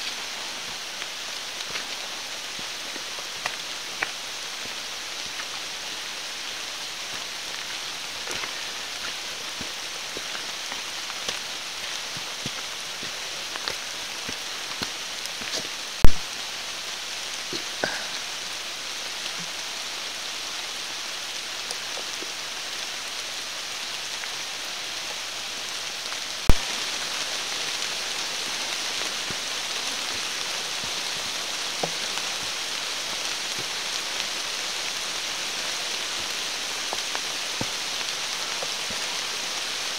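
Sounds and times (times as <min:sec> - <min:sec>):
rain falling on forest: 0:00.0 - 0:39.9.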